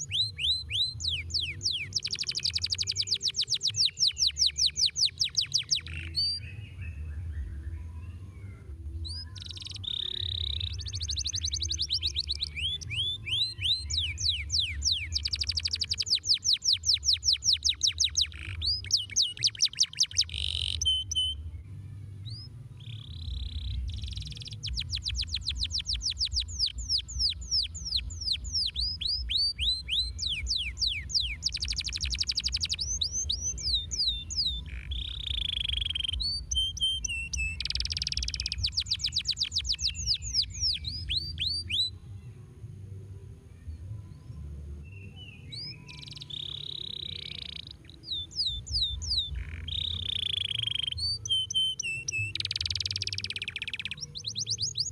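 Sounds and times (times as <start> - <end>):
canary singing trills: 0.0 - 21.5, 22.2 - 42.0, 44.8 - 54.9.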